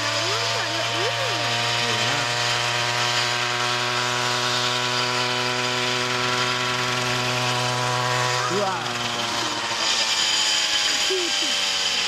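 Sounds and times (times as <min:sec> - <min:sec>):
model helicopter engine running: 0:00.0 - 0:12.0
rotors spinning: 0:00.0 - 0:12.0.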